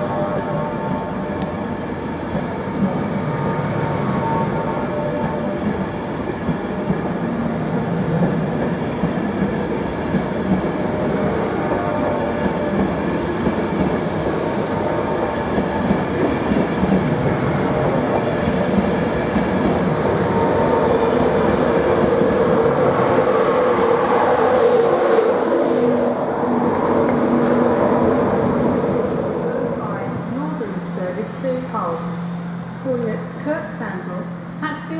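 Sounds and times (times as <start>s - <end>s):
train passing on rails: 0.0s - 34.9s.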